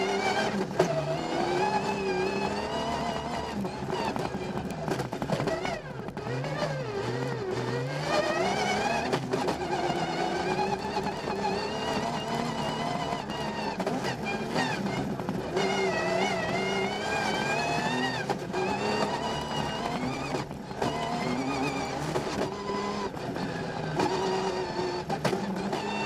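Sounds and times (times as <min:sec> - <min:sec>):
rally car engine at full throttle: 0:00.0 - 0:26.0.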